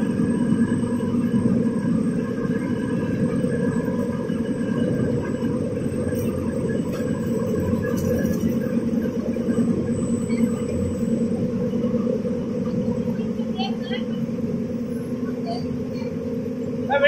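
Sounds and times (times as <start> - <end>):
factory machinery rumble: 0.0 - 17.0
faint machine hums: 0.0 - 17.0.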